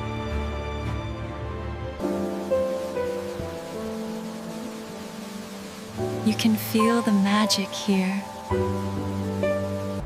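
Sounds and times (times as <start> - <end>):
soft music of held chords: 0.0 - 10.0.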